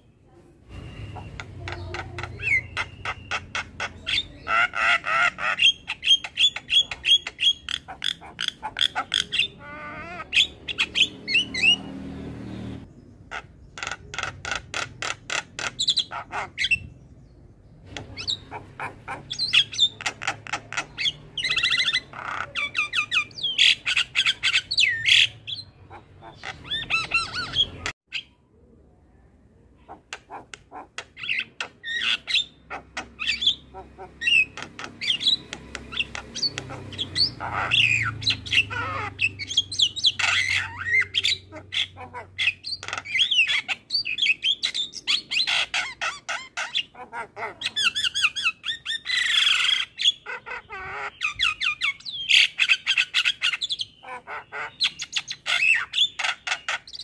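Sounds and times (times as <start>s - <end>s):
bird singing harsh chattering notes: 0.7s - 12.0s, 12.6s - 28.4s, 29.9s - 57.0s.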